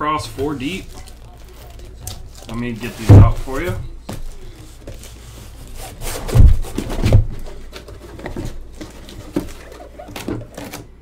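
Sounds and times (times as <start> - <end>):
card packs rustling: 0.2 - 11.0.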